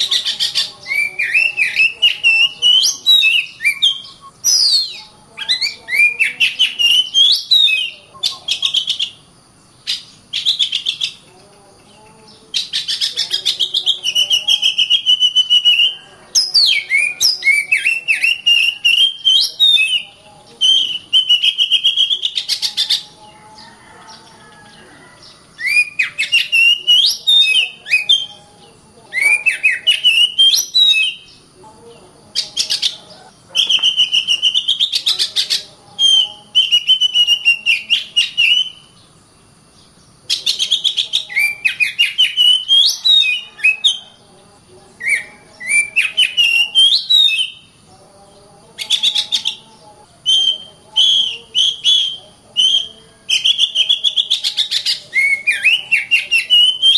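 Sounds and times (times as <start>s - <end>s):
bird singing whistled notes: 0.0s - 9.2s, 9.8s - 11.3s, 11.9s - 31.5s, 32.3s - 39.2s, 39.8s - 44.2s, 45.0s - 47.7s, 48.8s - 56.9s.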